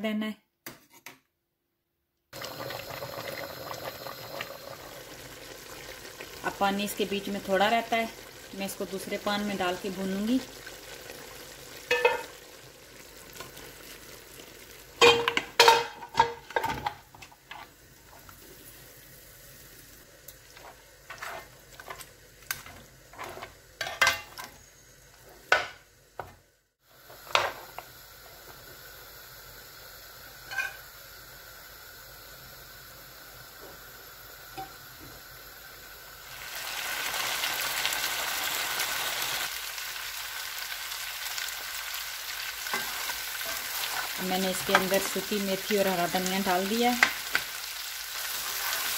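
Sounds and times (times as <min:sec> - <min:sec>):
meat sizzling in a pan: 0:02.4 - 0:25.0, 0:26.8 - 0:48.9.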